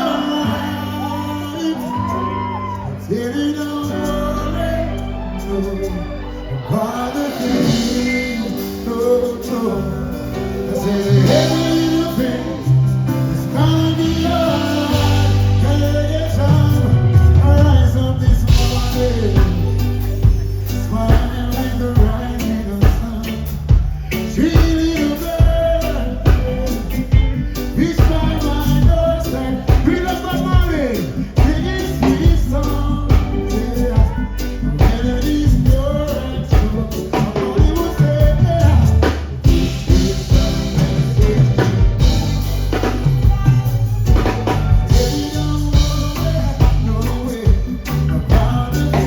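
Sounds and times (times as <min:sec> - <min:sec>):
person singing: 0:00.0 - 0:49.0
reggae band playing: 0:00.0 - 0:49.0.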